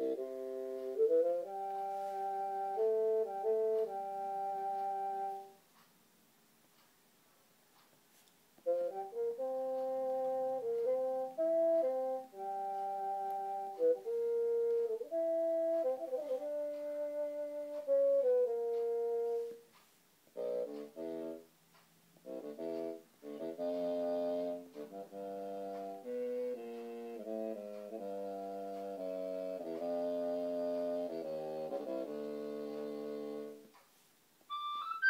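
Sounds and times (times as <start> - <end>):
synthesized wind instrument chords: 0.0 - 5.6, 8.6 - 19.6, 20.4 - 21.5, 22.2 - 33.8, 34.5 - 35.0.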